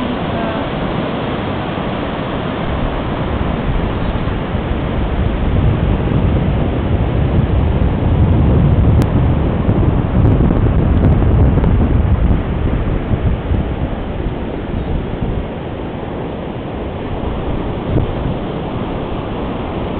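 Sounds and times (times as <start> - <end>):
ocean surf breaking: 0.0 - 19.9
wind buffeting microphone: 0.0 - 19.9.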